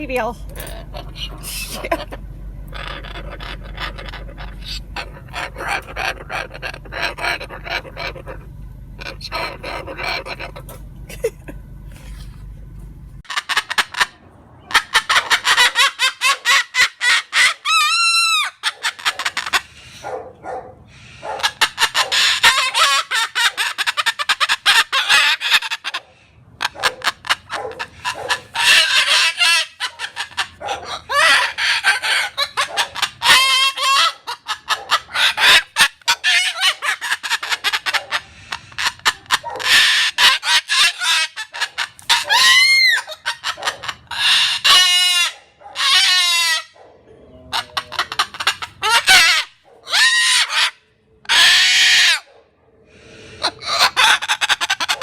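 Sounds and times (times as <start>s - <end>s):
cockatoo chattering and squawking: 0.0s - 12.5s, 13.2s - 55.0s
cockatoo rising and falling call: 0.6s - 10.8s, 13.3s - 20.1s, 20.9s - 52.3s, 52.9s - 55.0s.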